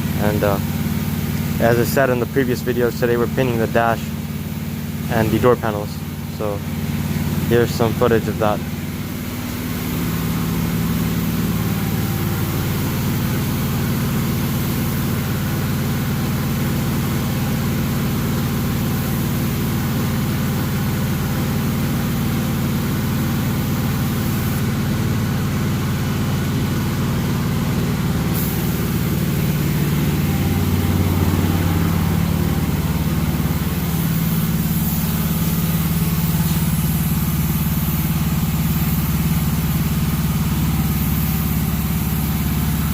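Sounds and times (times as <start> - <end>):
motor droning with hiss: 0.0 - 17.6, 26.1 - 42.9.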